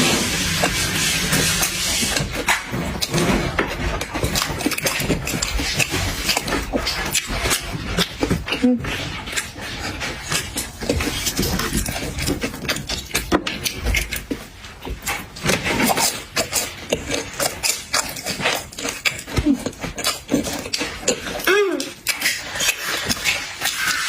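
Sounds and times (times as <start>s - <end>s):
person chewing and mouth smacking: 0.0s - 24.0s.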